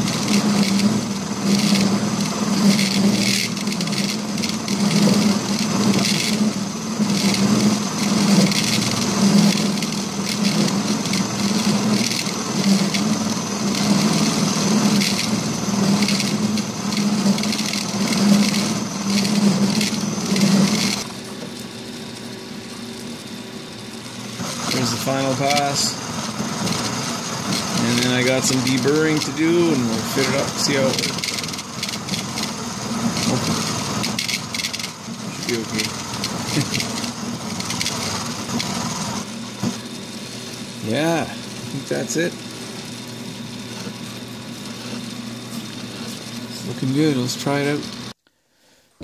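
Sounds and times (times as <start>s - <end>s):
milling cutter grinding metal: 0.0s - 48.2s
milling machine running: 0.0s - 48.2s.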